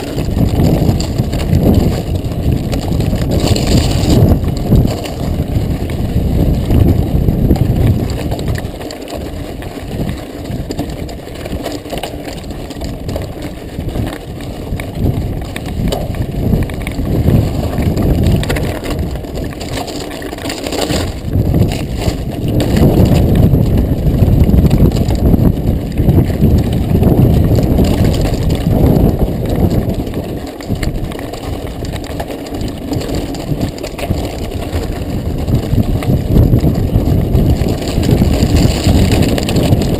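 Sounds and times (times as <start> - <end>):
mountain bike rattling over gravel: 0.0 - 39.9
wind buffeting microphone: 0.0 - 39.9.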